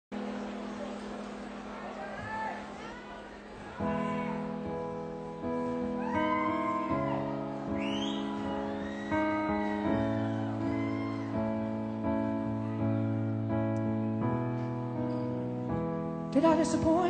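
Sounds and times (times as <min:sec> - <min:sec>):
slow piano chords: 0:00.1 - 0:17.0.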